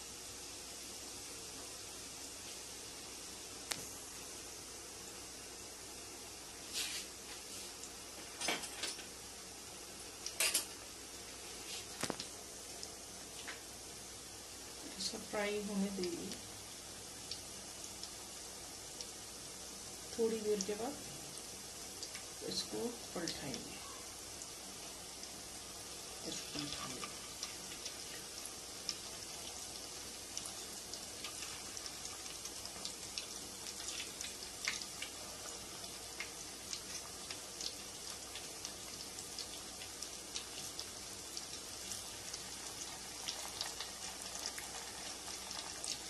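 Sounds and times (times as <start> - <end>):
food deep-frying in oil: 0.0 - 46.0.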